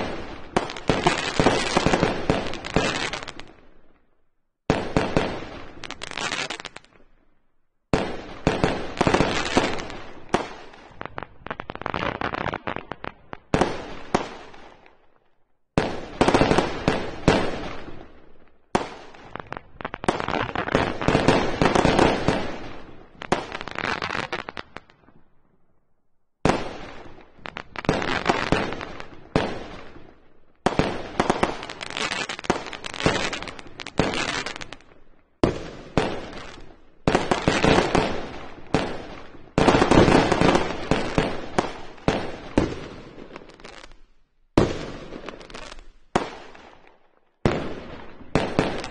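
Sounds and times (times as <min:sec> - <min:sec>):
fireworks bangs and crackles: 0:00.0 - 0:07.3, 0:07.9 - 0:15.1, 0:15.8 - 0:25.6, 0:26.4 - 0:48.9.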